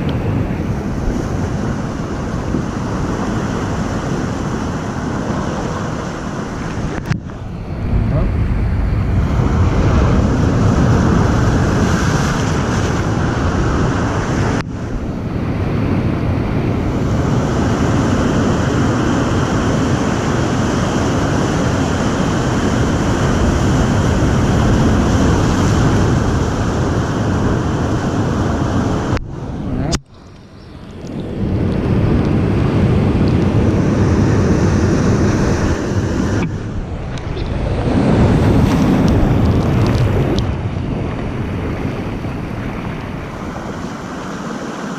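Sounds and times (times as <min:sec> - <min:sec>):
ocean waves breaking: 0:00.0 - 0:44.9
wind rumbling on microphone: 0:00.0 - 0:44.9.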